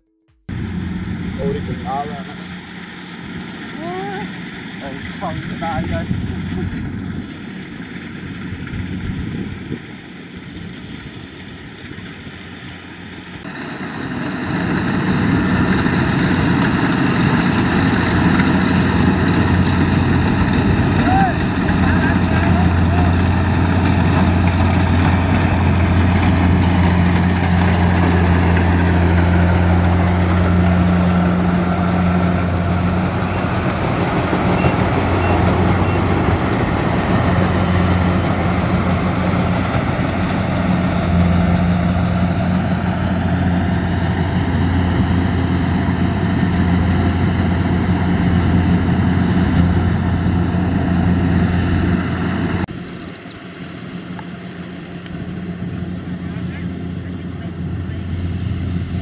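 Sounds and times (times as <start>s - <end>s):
combine harvester working: 0.3s - 59.0s.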